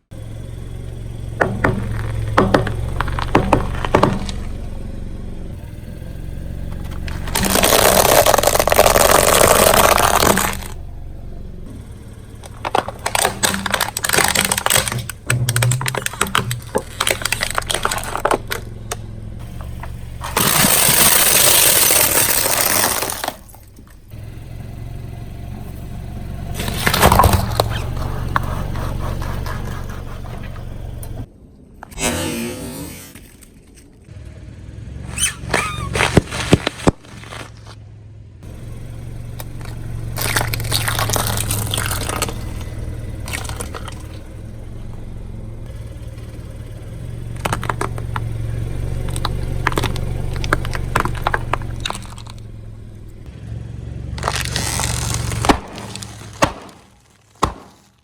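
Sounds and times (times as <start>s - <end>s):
car engine humming: 0.0s - 58.0s
tyres crushing objects: 0.2s - 5.8s, 6.5s - 24.2s, 26.3s - 34.0s, 35.1s - 37.8s, 39.3s - 52.6s, 54.2s - 58.0s.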